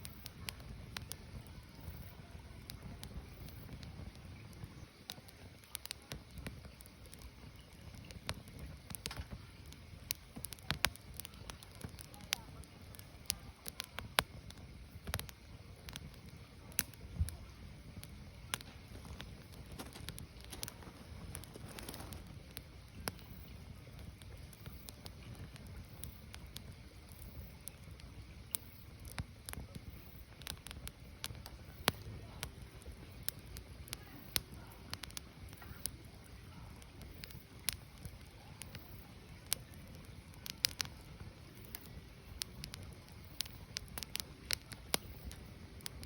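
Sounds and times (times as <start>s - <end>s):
firewood crackling and popping: 0.0s - 46.0s
low rumble of fire: 0.0s - 46.0s.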